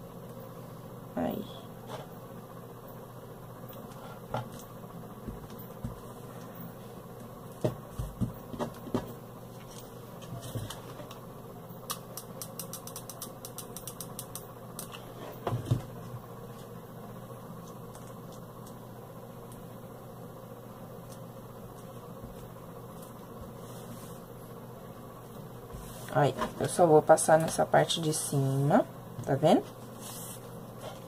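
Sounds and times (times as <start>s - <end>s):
low background hum: 0.0s - 31.0s.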